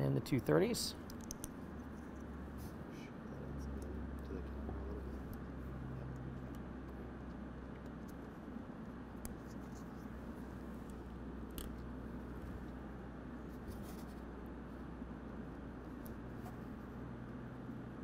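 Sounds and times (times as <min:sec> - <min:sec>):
low hum: 0:00.1 - 0:18.0.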